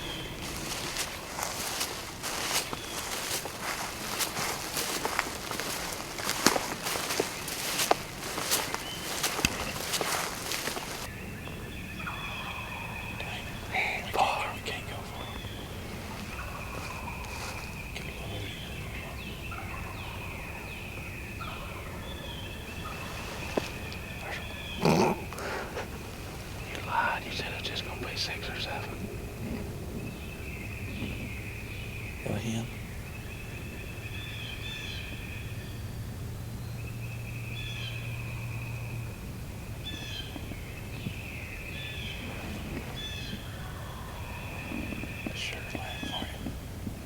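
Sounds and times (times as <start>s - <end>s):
songbirds singing: 0.0s - 47.0s.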